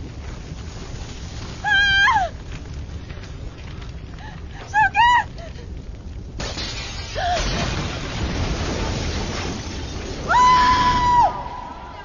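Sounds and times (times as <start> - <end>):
flames whooshing: 0.0 - 12.0.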